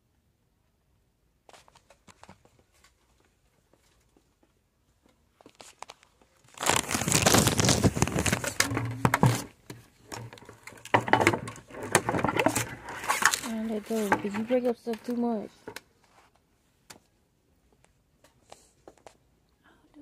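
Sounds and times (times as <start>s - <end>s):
crinkling and rustling at microphone: 1.4s - 20.0s.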